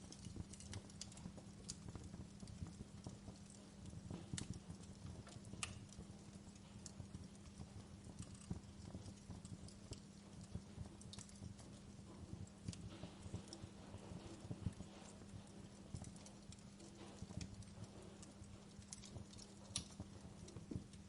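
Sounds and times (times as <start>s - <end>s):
low rumble of flames: 0.0s - 21.0s
wood crackling and popping: 0.0s - 21.0s.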